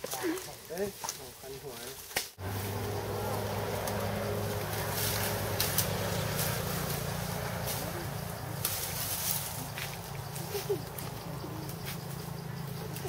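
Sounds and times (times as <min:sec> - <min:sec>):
vehicle engine running: 0:02.4 - 0:13.0.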